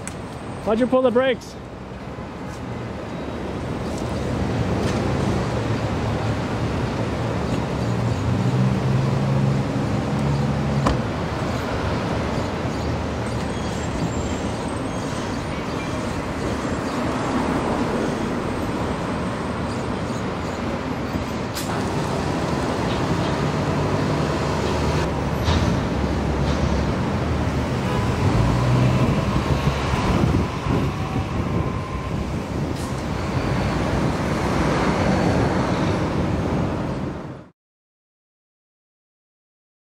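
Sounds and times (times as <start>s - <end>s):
city traffic hum: 0.0s - 37.5s.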